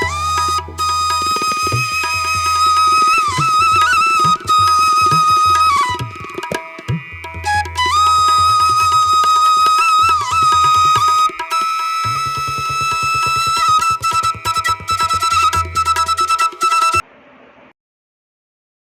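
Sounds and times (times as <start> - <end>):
fast tabla drumming: 0.0 - 17.0
flute melody: 0.0 - 17.0.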